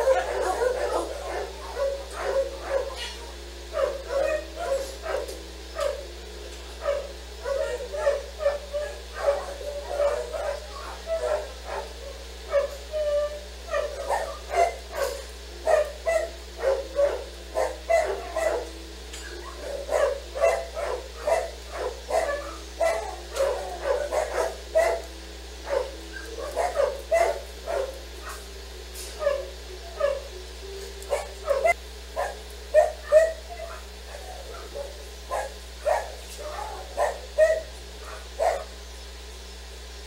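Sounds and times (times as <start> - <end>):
dog barking: 0.0 - 6.1, 6.8 - 28.4, 29.2 - 30.2, 31.1 - 38.7.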